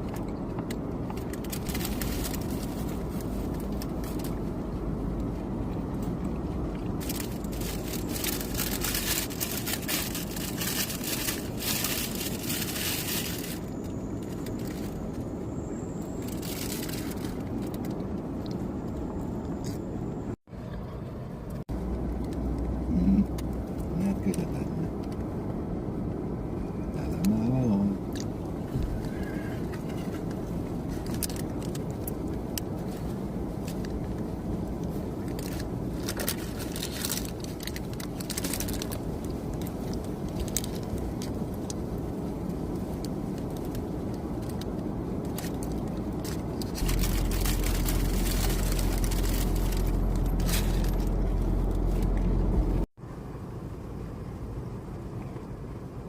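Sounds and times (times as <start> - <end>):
car interior rumble: 0.0 - 56.0.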